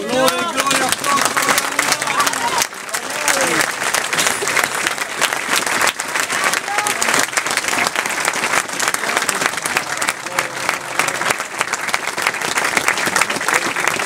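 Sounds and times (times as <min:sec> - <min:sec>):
large crowd applauding: 0:00.0 - 0:14.0.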